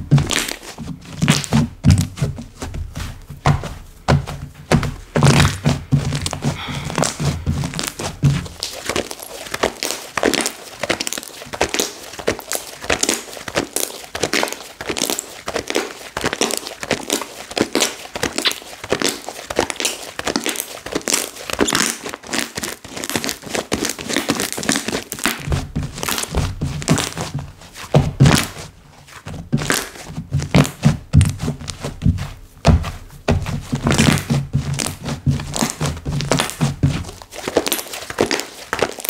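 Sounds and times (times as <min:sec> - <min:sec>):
slime squeezed by hand: 0:05.2 - 0:27.2, 0:29.6 - 0:39.0.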